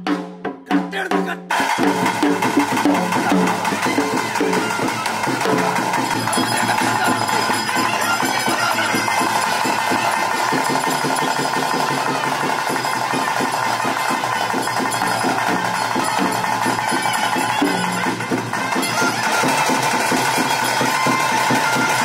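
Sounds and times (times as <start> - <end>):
fast drumming on barrel drums: 0.0 - 22.0
high wind instrument long notes: 1.1 - 22.0.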